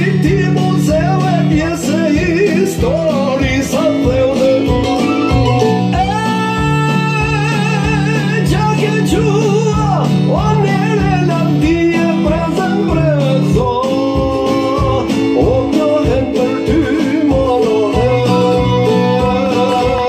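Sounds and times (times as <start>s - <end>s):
man singing through loudspeaker: 0.0s - 20.0s
plucked-string accompaniment: 0.0s - 20.0s.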